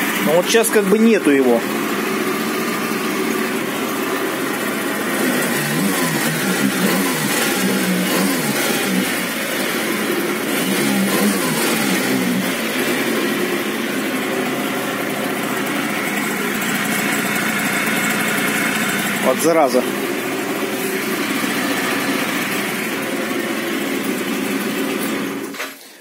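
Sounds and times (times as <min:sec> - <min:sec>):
scooter engine revving: 0:00.0 - 0:25.8.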